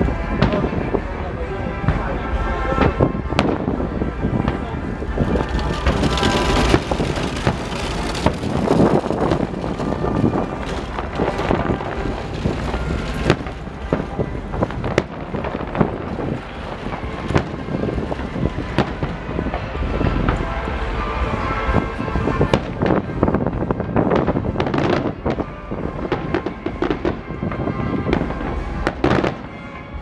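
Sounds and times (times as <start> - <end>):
low rumble: 0.0 - 24.7
fireworks bursting: 2.8 - 29.8.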